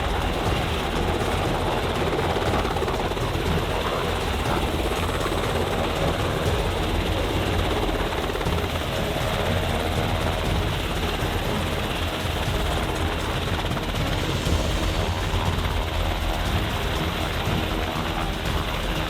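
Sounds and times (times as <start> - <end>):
engine throbbing: 0.0 - 19.0.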